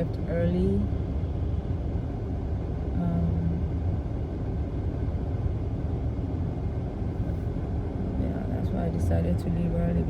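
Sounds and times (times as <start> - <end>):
car engine rumble: 0.0 - 10.0
road noise inside car: 0.0 - 10.0.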